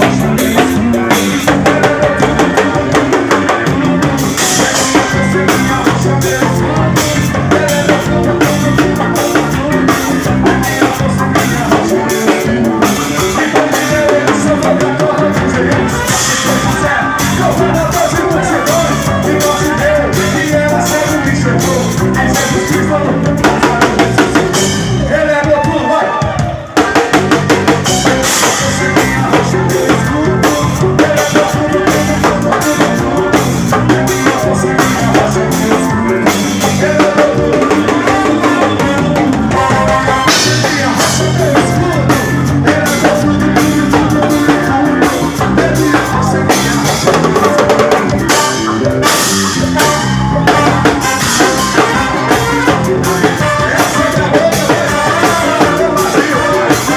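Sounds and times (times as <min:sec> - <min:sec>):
drum kit playing: 0:00.0 - 0:56.9
full band music: 0:00.0 - 0:56.9.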